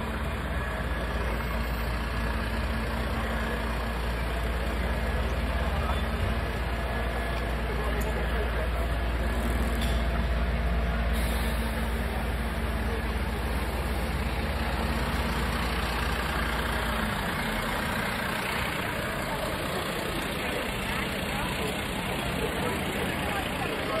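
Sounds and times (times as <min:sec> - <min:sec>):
diesel engine idling: 0:00.0 - 0:24.0
street noise: 0:00.0 - 0:24.0.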